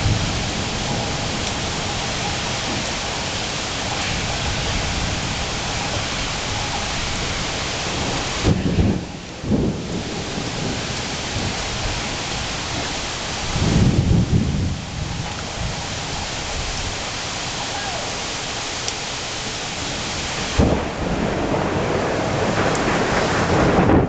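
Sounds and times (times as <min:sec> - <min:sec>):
thunder rumbling: 0:00.0 - 0:17.1, 0:19.6 - 0:24.0
steady rain: 0:00.0 - 0:24.0.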